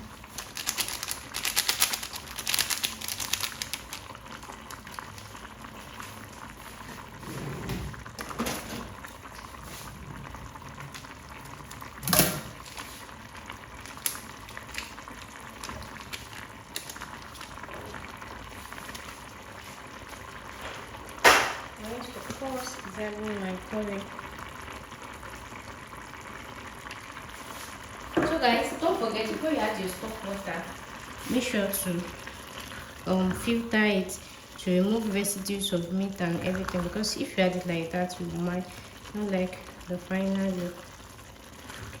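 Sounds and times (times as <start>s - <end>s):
sauce bubbling in a pot: 0.0s - 42.0s.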